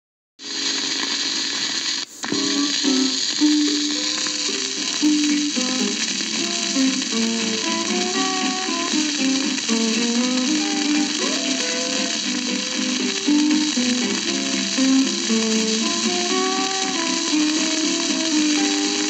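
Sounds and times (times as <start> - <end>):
record hiss and crackle: 0.4 - 19.0
acoustic guitars playing: 2.2 - 19.0.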